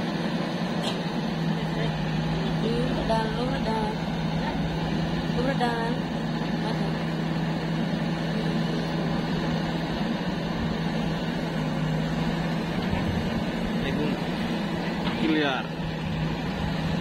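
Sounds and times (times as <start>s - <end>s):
backhoe loader working: 0.0s - 17.0s
tractors idling: 0.0s - 17.0s.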